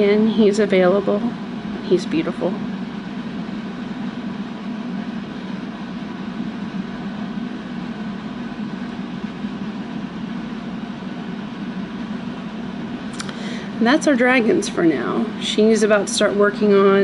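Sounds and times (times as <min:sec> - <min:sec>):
cooling fan hum and rush: 0:00.0 - 0:17.0.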